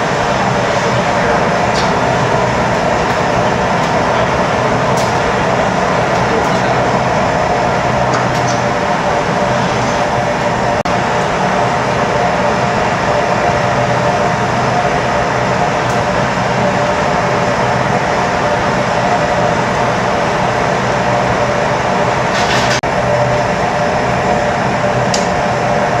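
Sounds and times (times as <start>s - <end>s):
gas burners roaring: 0.0s - 26.0s.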